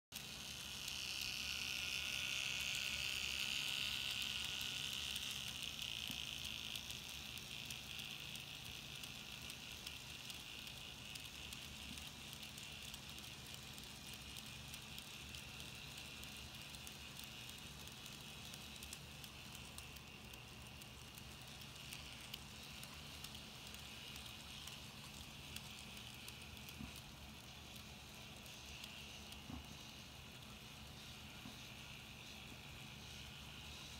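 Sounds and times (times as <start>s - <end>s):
small electric motor whine: 0.2s - 33.9s.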